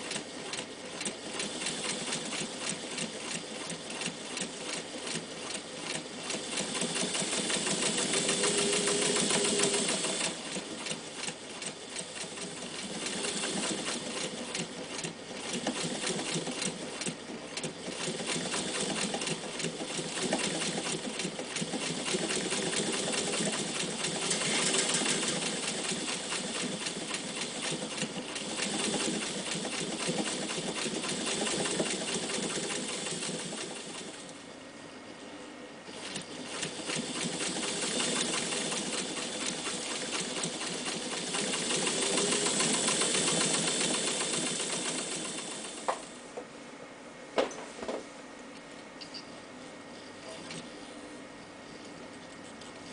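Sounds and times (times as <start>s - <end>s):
sewing machine clattering: 0.0s - 34.3s, 35.9s - 46.2s.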